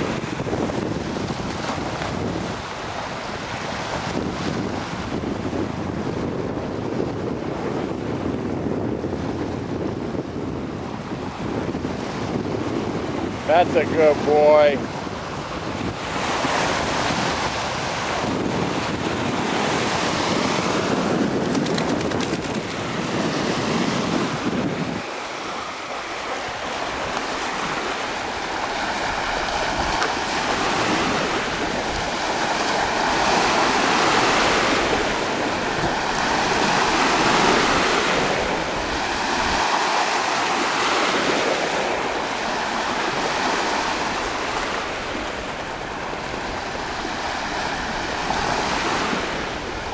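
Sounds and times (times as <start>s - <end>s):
lake waves washing on shore: 0.0s - 49.9s
wind rumble on microphone: 0.0s - 49.9s.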